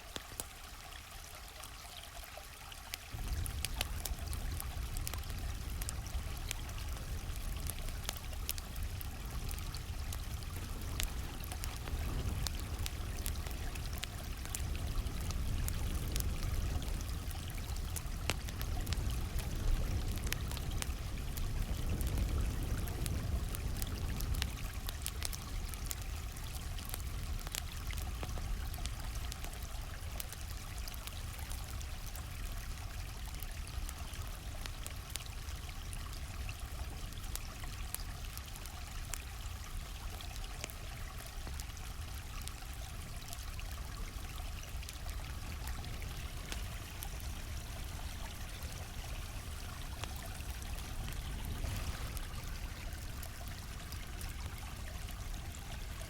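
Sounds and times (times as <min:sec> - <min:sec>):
campfire crackling: 0:00.0 - 0:02.3, 0:03.0 - 0:56.0
stream flowing: 0:00.0 - 0:56.0.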